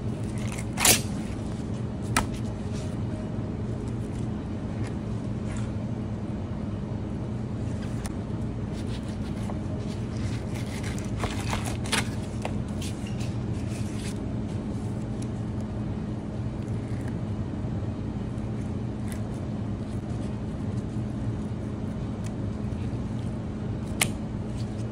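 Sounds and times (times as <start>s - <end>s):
low machine hum: 0.0s - 24.9s.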